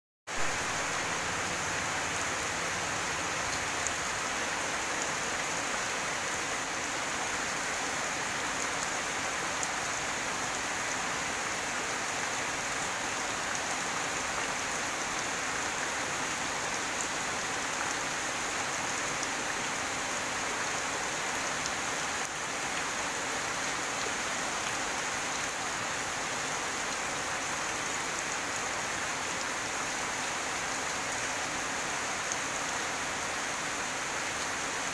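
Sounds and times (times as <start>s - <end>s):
heavy rain on foliage: 0.3s - 34.9s.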